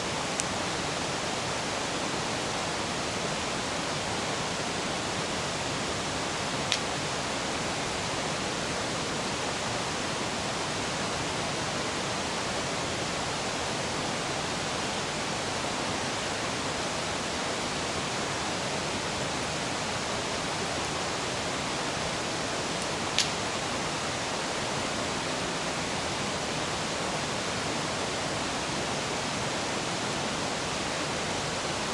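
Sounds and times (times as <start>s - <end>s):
river rushing: 0.0s - 31.9s.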